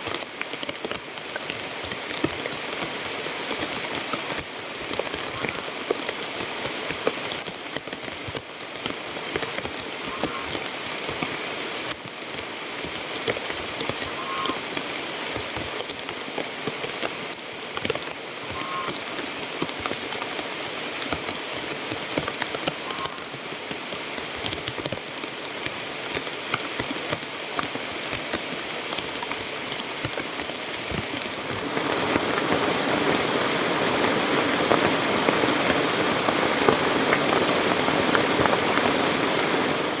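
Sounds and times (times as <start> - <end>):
heavy rain pattering: 0.0 - 40.0.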